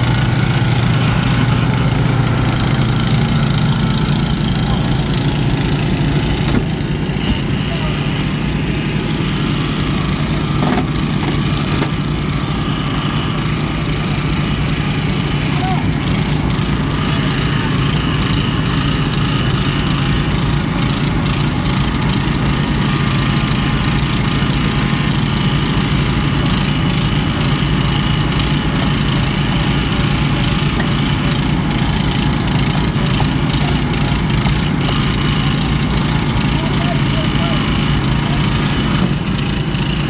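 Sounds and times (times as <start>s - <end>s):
small gasoline engine running: 0.0s - 40.0s.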